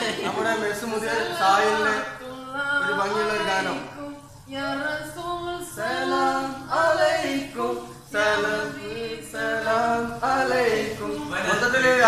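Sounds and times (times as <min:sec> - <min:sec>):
man singing unaccompanied: 0:00.2 - 0:05.0, 0:05.6 - 0:12.0.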